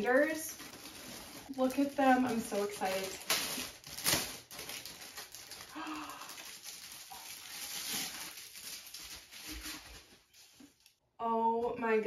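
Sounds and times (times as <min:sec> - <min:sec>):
binders rustling while unwrapped: 0:00.0 - 0:10.9.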